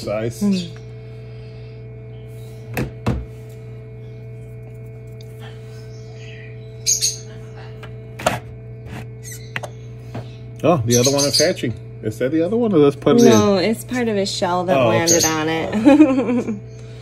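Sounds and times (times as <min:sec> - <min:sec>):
incubator fan humming: 0:00.0 - 0:17.0.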